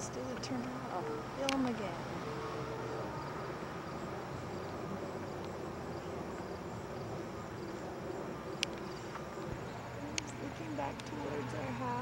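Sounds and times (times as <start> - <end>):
faint insects chirping: 0.0 - 12.0.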